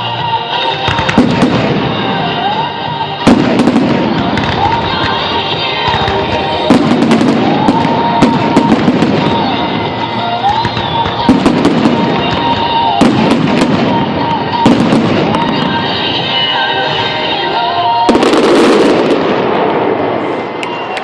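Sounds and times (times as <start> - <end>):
fireworks bangs and crackles: 0.0 - 21.0
music playing: 0.0 - 21.0.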